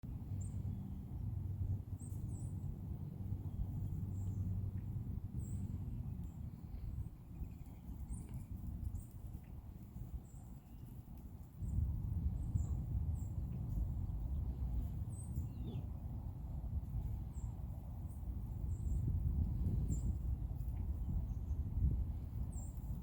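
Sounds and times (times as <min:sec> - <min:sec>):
songbirds chirping: 0:00.0 - 0:23.0
steady low hum: 0:00.0 - 0:23.0.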